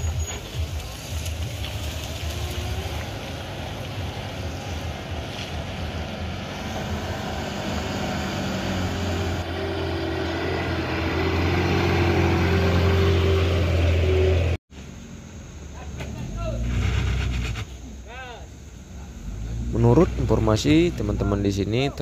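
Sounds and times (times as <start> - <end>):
diesel truck driving past: 0.0 - 17.9, 18.7 - 22.0
hum of traffic: 0.0 - 22.0.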